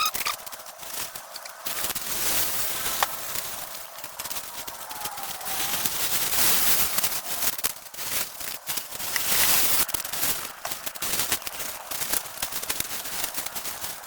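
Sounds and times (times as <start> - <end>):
crackling and snapping: 0.0 - 14.0
dense rustle: 0.0 - 14.0.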